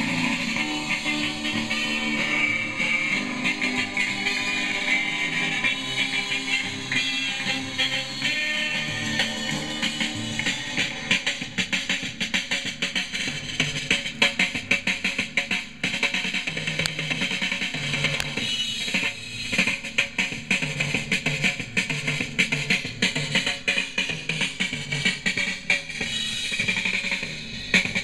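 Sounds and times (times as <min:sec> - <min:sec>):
song with drum kit: 0:00.0 - 0:28.0.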